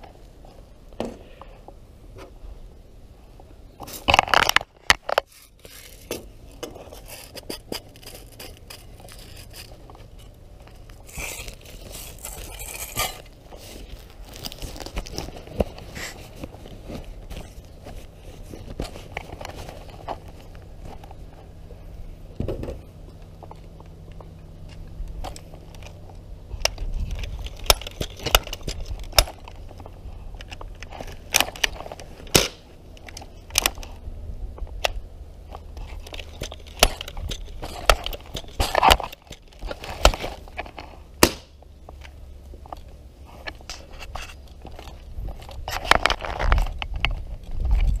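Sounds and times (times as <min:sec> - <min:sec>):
low steady rumble: 0:00.0 - 0:48.0
crackles and clicks: 0:03.7 - 0:22.0, 0:23.0 - 0:48.0.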